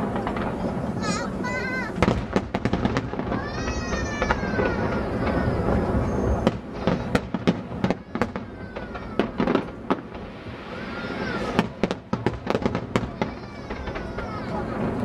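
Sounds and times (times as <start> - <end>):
fireworks rumble and crackle: 0.0 - 15.0
fireworks sharp bangs: 0.0 - 15.0.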